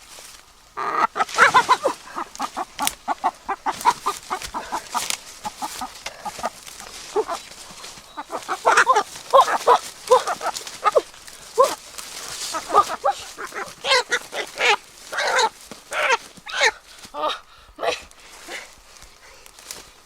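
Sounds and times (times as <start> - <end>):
chickens clucking: 0.6 - 18.6.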